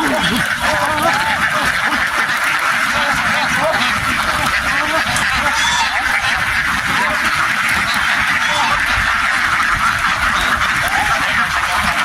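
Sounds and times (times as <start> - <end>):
flock of ducks quacking: 0.0 - 12.0.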